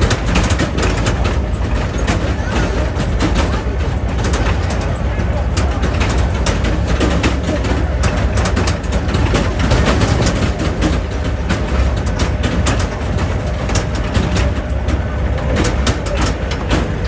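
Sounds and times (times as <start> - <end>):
rattles and knocks: 0.0 - 17.0
tractor engine rumbling: 0.0 - 17.0.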